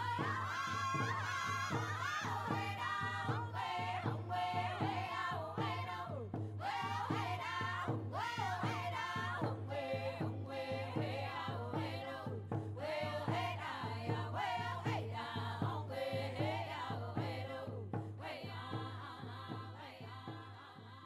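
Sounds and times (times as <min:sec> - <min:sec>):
voices singing together: 0:00.0 - 0:21.0.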